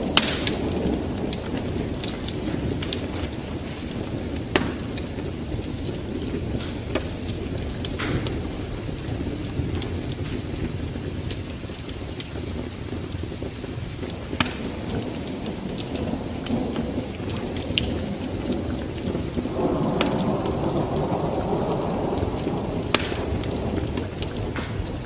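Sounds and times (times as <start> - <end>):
fire crackling and popping: 0.0 - 25.0
fire rumbling in fireplace: 0.0 - 25.0.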